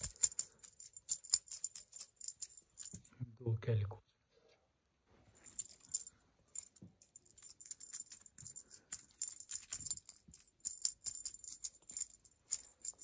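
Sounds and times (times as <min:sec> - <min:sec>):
small bell and charms jingling: 0:00.0 - 0:03.1, 0:05.4 - 0:13.0.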